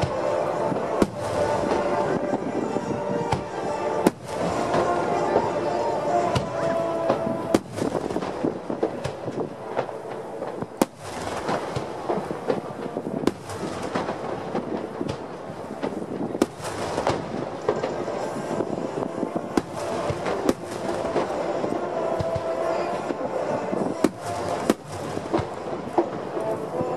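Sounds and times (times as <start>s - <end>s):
fireworks booming: 0.0s - 26.9s
fireworks crackling: 0.0s - 26.9s.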